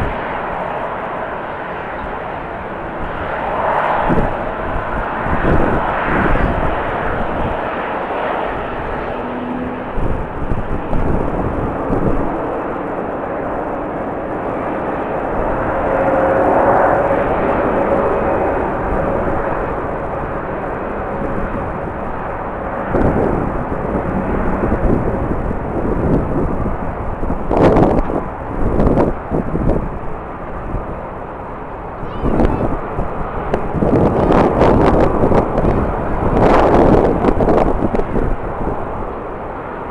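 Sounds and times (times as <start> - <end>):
jet engines rushing and whining: 0.0 - 39.9
wind buffeting microphone: 0.0 - 39.9.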